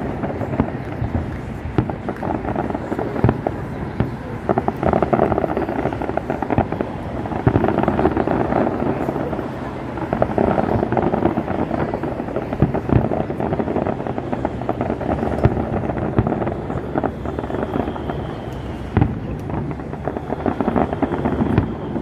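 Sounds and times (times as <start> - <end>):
fireworks crackling and popping: 0.0 - 22.0
sharp firework bangs: 0.0 - 22.0.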